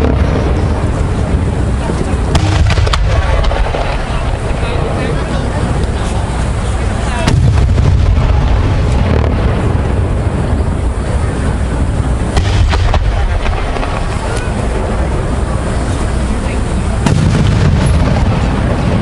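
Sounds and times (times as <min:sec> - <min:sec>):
rumble of firework bursts: 0:00.0 - 0:19.0
sharp firework cracks: 0:00.0 - 0:19.0.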